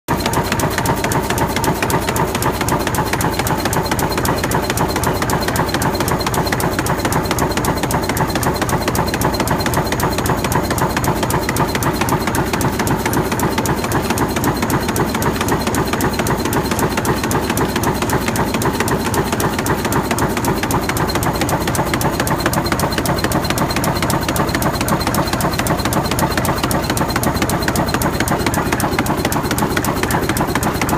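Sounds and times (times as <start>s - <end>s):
tufting machine clatter: 0.1s - 30.9s.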